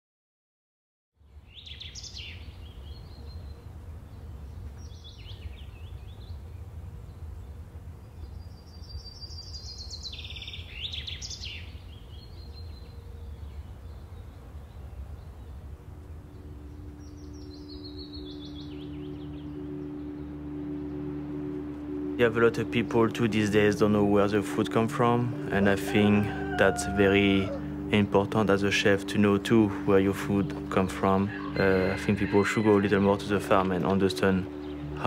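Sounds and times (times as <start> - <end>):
birds chirping: 1.2 - 35.0.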